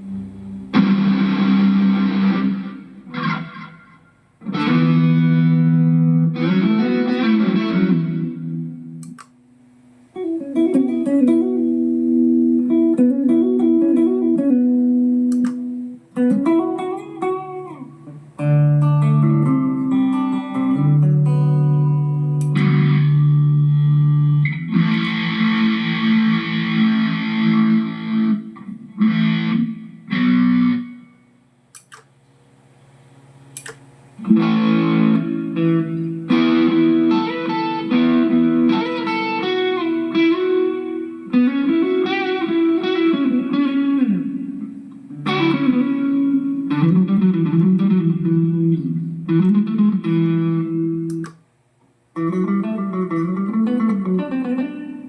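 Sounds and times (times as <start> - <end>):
electric guitar lead line: 0.0 - 9.4, 10.0 - 31.4, 34.2 - 51.5, 52.2 - 55.0
electric guitar chords: 0.0 - 31.9, 33.6 - 55.0.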